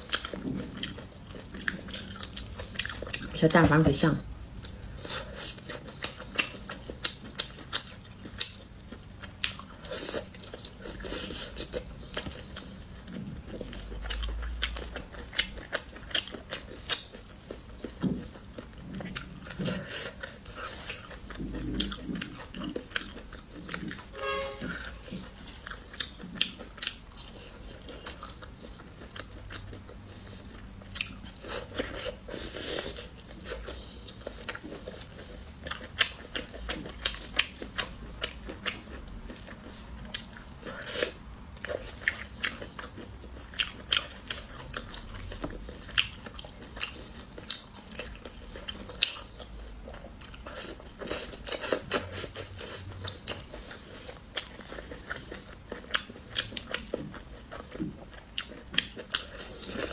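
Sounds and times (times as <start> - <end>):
biting and chewing: 0.0 - 3.6, 4.3 - 24.2, 24.8 - 59.9.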